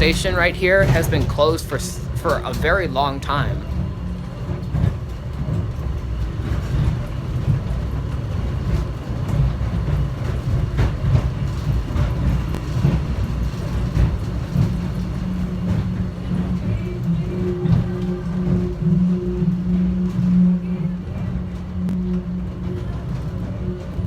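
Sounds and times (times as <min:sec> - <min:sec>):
train running with low rumble: 0:00.0 - 0:24.0.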